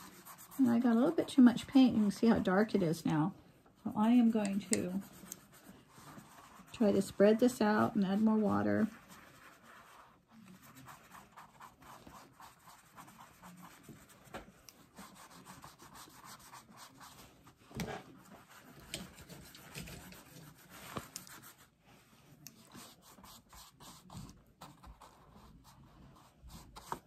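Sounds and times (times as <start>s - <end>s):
paintbrush scrubbing on paper: 0.0s - 2.4s, 4.0s - 27.0s.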